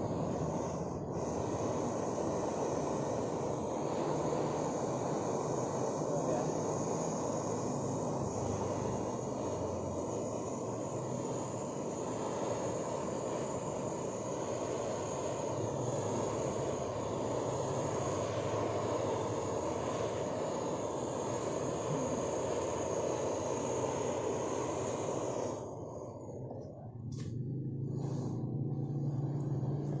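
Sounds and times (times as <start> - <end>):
butane torch flame hissing: 0.0 - 30.0.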